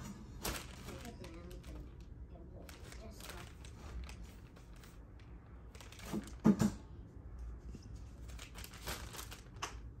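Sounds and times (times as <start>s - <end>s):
paper mailer rustling and crinkling: 0.2s - 6.6s, 7.8s - 10.0s.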